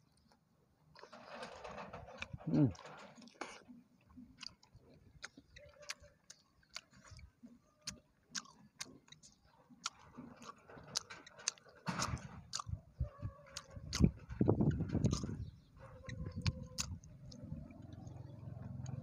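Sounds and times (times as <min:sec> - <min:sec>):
man chewing crunchy food: 0:02.1 - 0:19.0.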